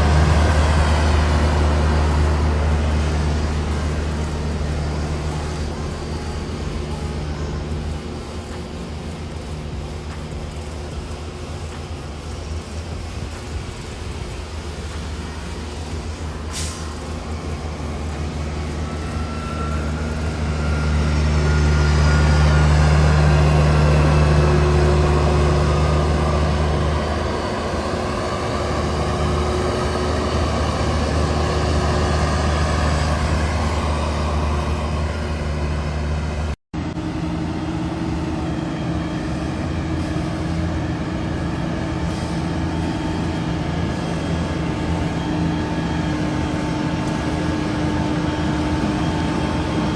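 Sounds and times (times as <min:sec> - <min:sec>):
diesel engines running: 0:00.0 - 0:49.9.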